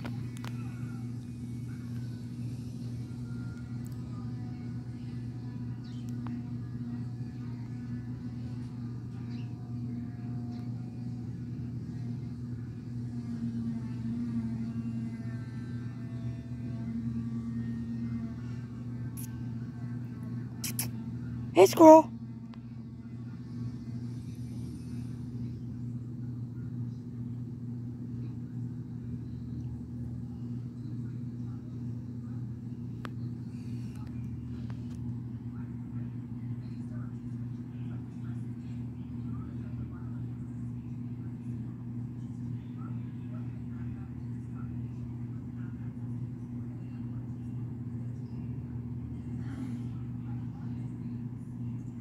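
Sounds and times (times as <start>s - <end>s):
low motor hum: 0.0s - 52.0s.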